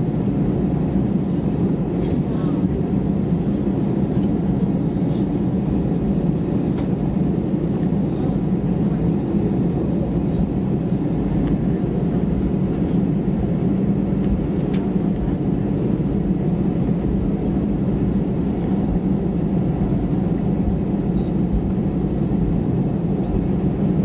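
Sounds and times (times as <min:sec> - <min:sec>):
airplane cabin engine hum: 0:00.0 - 0:24.0.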